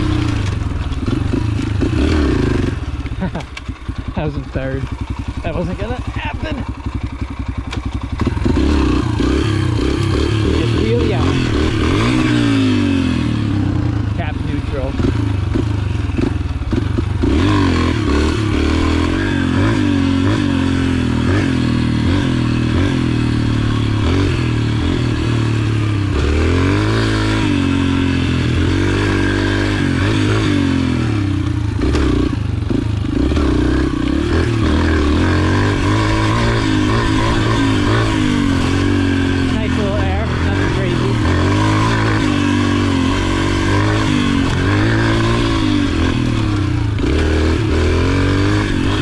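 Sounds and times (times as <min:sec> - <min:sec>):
motorbike engine revving: 0:00.0 - 0:49.0.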